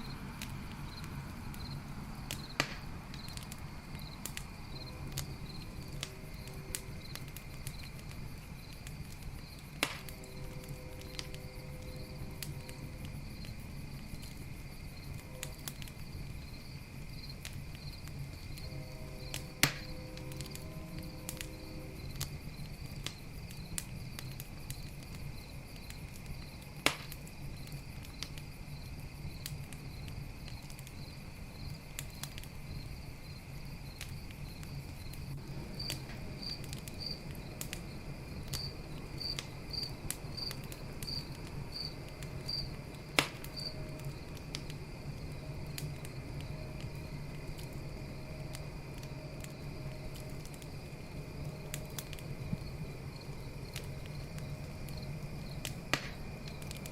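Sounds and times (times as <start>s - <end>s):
campfire crackling: 0.0s - 56.9s
crickets chirping: 0.0s - 56.9s
loud fire pops: 0.3s - 56.9s.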